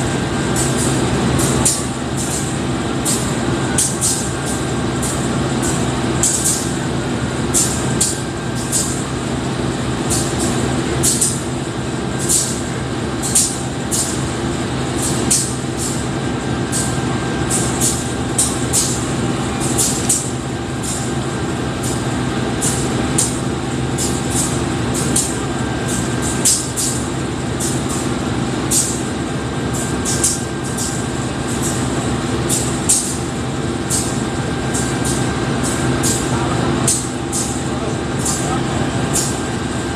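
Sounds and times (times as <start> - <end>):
diesel locomotive idling: 0.0 - 39.9.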